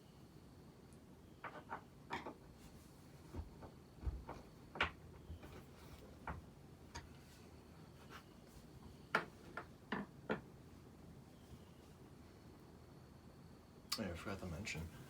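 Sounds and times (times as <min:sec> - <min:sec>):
ceiling fan running: 0:02.4 - 0:15.0.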